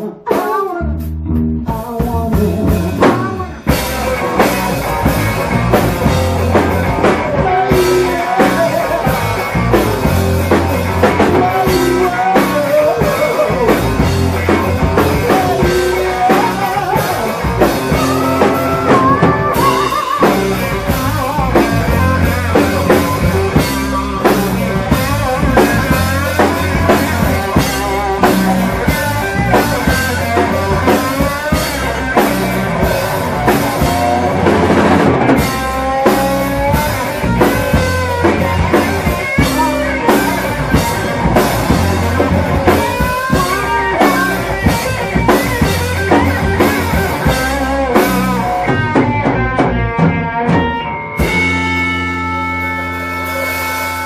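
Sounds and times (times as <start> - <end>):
drum kit: 0.0 - 54.0
electric guitar: 0.0 - 54.0
live rock band playing: 0.0 - 54.0.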